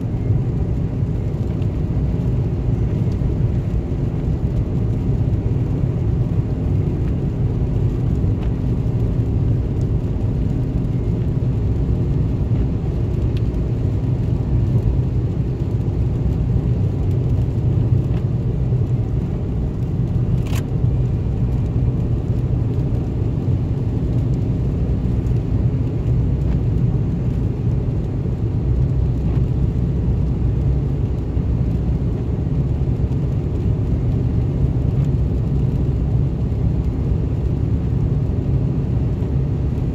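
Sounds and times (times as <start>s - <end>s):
engine drone and tyre noise: 0.0s - 39.9s.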